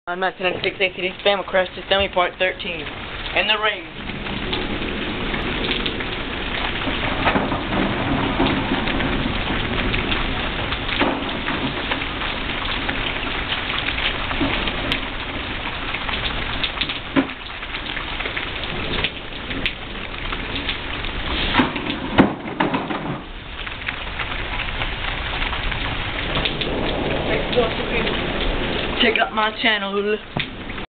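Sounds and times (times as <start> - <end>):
steady rain hiss: 0.1 - 30.9.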